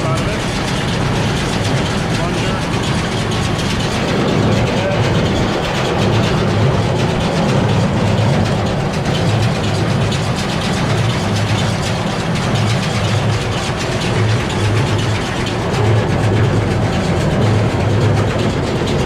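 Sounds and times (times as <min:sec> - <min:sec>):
baler plunger and flywheel working: 0:00.0 - 0:19.0
tractor engine running: 0:00.0 - 0:19.0.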